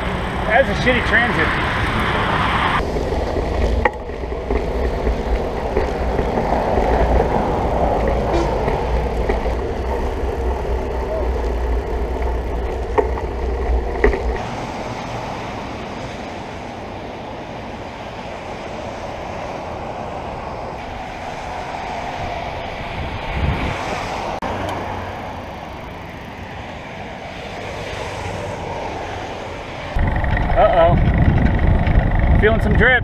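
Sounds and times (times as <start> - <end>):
bicycle road noise: 0.0 - 33.0
rushing wind: 0.0 - 33.0.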